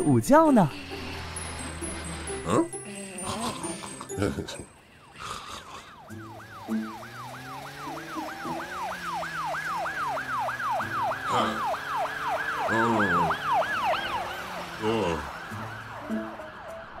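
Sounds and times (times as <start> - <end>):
cartoon police siren wailing: 0.5 - 17.0.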